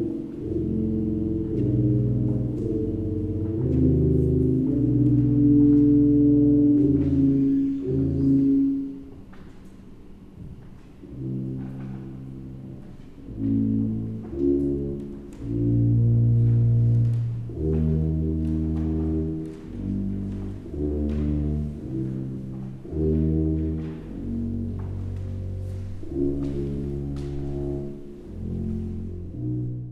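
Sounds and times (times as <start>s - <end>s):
low brass notes: 0.0s - 29.9s.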